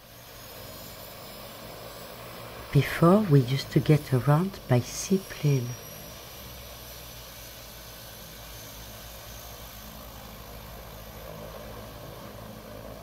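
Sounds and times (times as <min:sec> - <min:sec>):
seaplane engine drone: 0:00.0 - 0:13.0.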